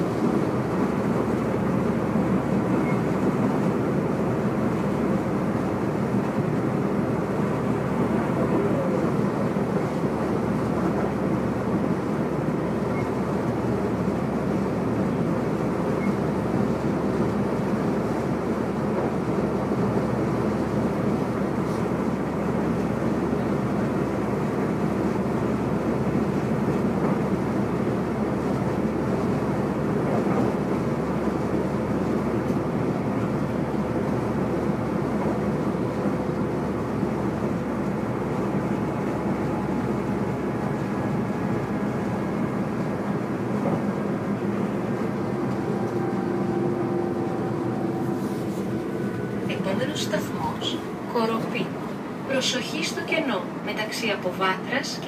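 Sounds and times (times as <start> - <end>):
train running at speed: 0.0 - 55.0.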